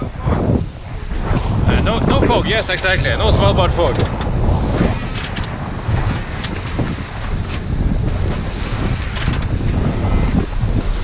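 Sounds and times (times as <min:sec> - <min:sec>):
waves rushing along hulls: 0:00.0 - 0:11.0
wind buffeting microphone: 0:00.0 - 0:11.0.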